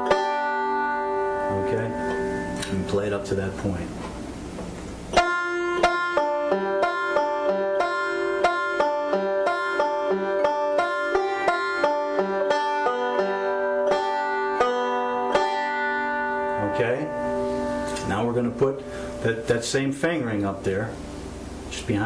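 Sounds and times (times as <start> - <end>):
banjo picking rolls: 0.0 - 4.3, 5.1 - 21.1.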